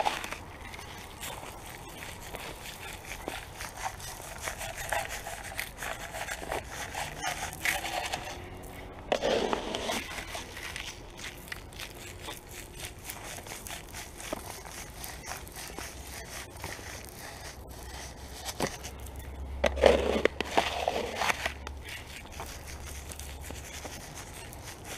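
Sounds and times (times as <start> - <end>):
boot scrape: 0.0 - 19.0, 19.6 - 24.9
rock salt crunching under boots: 0.0 - 24.9.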